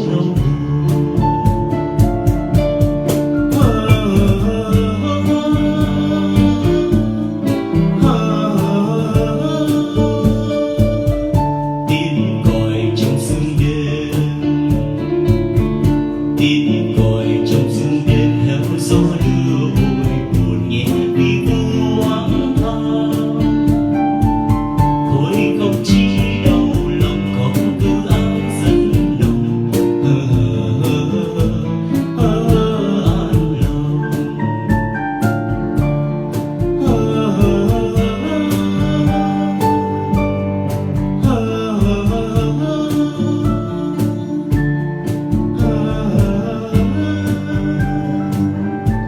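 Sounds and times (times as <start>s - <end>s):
song with guitar and beat: 0.0s - 49.0s.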